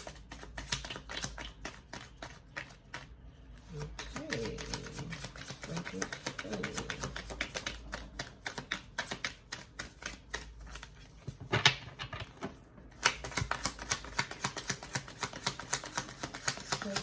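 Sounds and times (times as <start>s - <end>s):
cards being shuffled: 0.0s - 11.4s, 12.4s - 17.0s.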